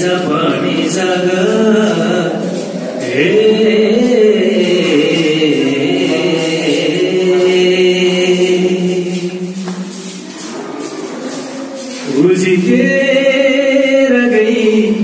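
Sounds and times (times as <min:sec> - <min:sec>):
man singing long notes: 0:00.0 - 0:11.0, 0:11.9 - 0:15.0.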